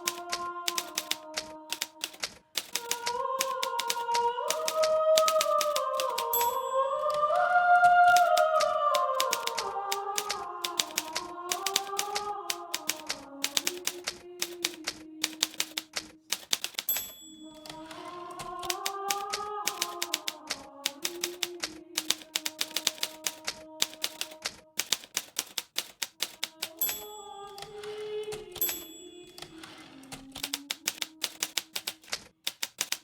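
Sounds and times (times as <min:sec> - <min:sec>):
typewriter keystrokes: 0:00.0 - 0:07.2, 0:08.1 - 0:33.0.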